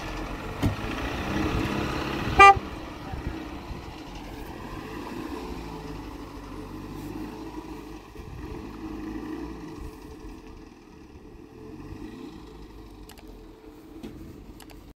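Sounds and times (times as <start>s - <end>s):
car engine driving away: 0.0s - 14.9s.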